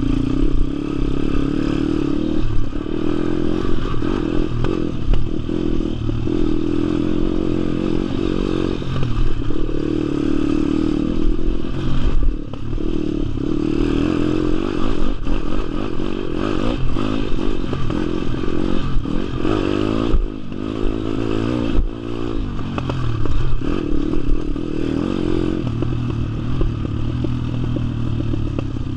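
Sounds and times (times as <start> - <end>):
motorbike engine revving: 0.0 - 28.9.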